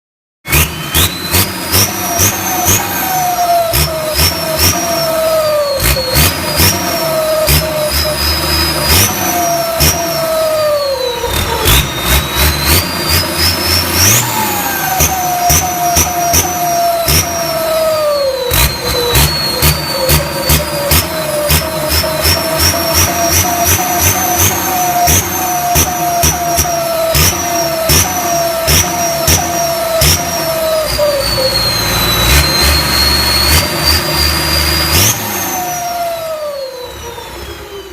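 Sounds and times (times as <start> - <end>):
engine with loud exhaust: 0.4 - 37.9
turbo whistle: 0.4 - 37.9.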